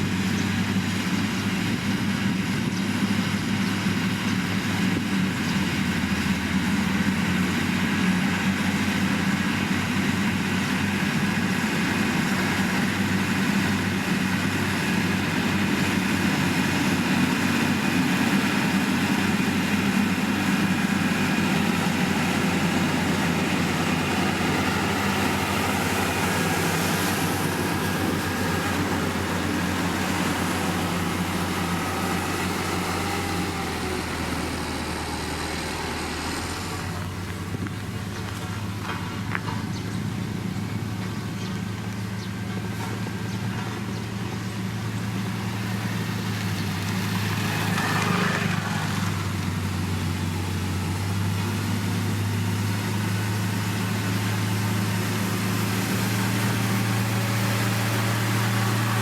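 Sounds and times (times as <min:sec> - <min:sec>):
heavy machinery engine droning: 0:00.0 - 0:59.0.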